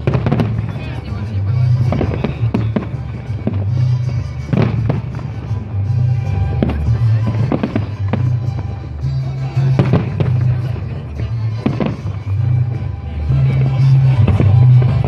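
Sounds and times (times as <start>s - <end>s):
fireworks bursting: 0.0s - 15.0s
loud music with heavy bass: 0.0s - 15.0s.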